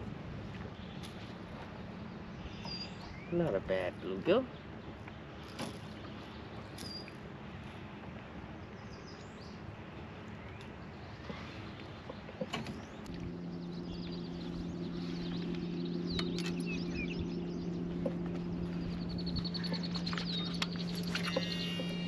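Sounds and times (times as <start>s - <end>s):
steady low hum: 0.0s - 22.0s
birds chirping and trilling: 0.8s - 7.8s, 8.5s - 22.0s.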